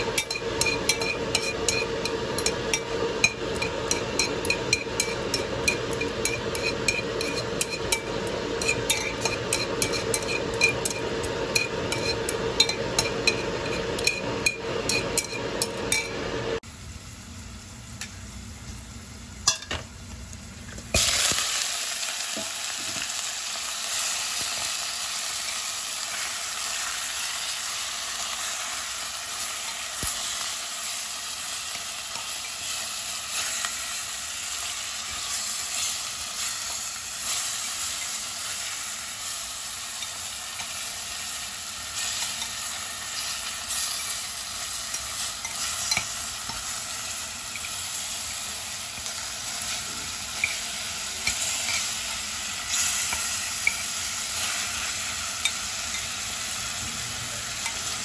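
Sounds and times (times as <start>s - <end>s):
pork sizzling in hot oil: 0.0s - 58.0s.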